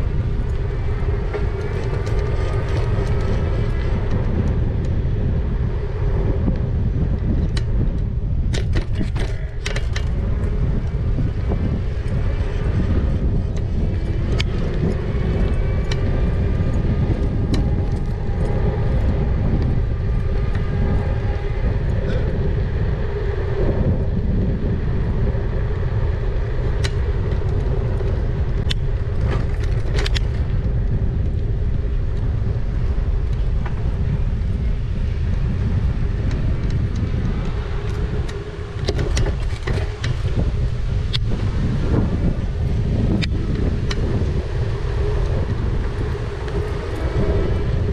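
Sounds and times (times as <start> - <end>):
bike clicks and rattles: 0.0 - 47.9
tyre noise on tarmac: 0.0 - 47.9
wind rumbling on microphone: 0.0 - 47.9.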